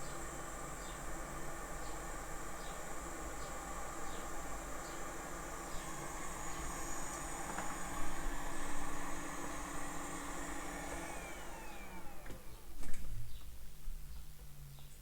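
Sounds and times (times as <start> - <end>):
electric blower fan whirring: 0.0 - 13.5.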